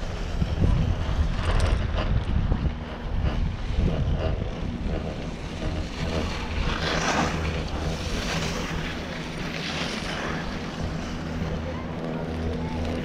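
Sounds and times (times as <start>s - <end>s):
chairlift humming: 0.0s - 13.0s
wind noise on microphone: 0.0s - 13.0s.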